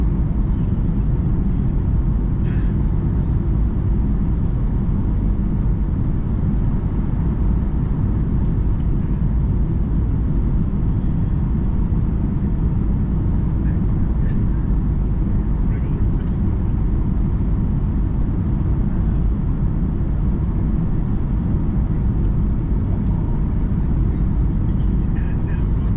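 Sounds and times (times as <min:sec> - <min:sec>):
jet engine cabin rumble: 0:00.0 - 0:25.9.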